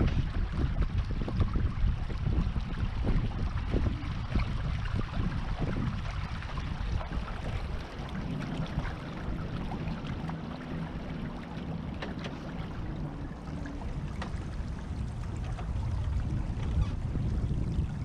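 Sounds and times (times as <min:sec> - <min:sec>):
water washing along hull: 0:00.0 - 0:18.0
wind buffeting microphone: 0:00.0 - 0:18.0.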